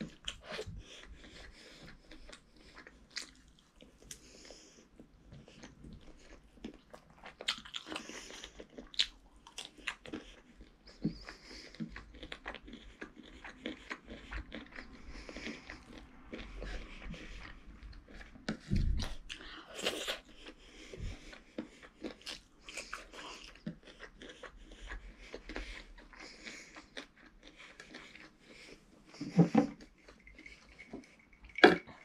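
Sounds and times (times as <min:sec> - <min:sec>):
child chewing food: 0:00.0 - 0:32.0.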